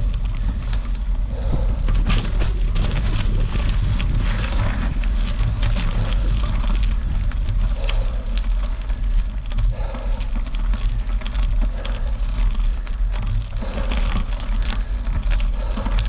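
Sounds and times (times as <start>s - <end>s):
bicycle tyres crunching gravel: 0.0s - 16.0s
bike rattling: 0.0s - 16.0s.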